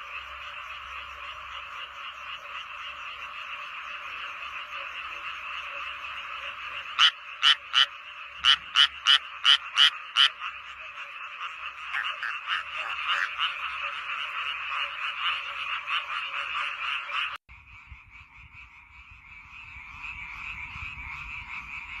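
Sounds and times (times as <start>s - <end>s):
frog chorus: 0.0s - 22.0s
loud frog croaks: 0.0s - 22.0s.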